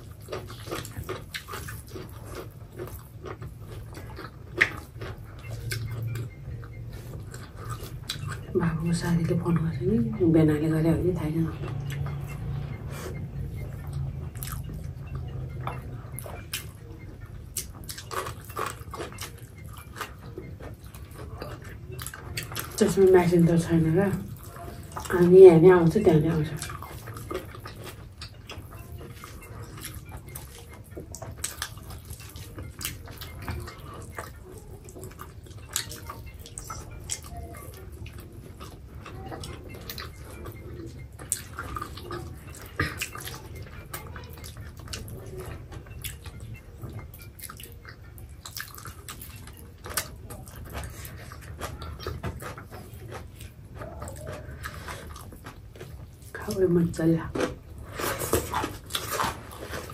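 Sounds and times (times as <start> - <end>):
wet chewing and mouth clicks: 0.0 - 10.3, 11.6 - 56.6, 57.3 - 59.9.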